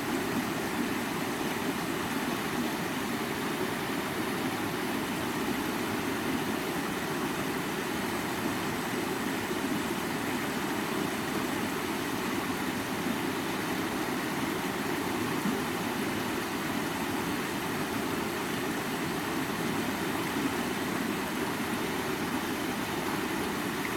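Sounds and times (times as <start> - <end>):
stream water running over rocks: 0.0 - 23.9.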